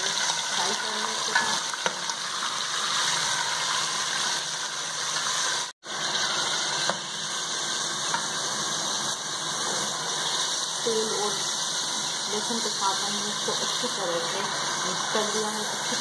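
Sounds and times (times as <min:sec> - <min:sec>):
beef sizzling in hot oil: 0:00.0 - 0:16.0.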